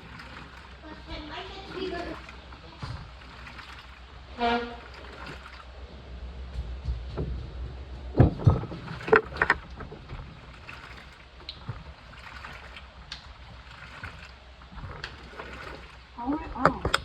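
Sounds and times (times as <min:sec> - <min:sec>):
washing machine running: 0:00.0 - 0:17.0
water sloshing in drum: 0:00.0 - 0:17.0.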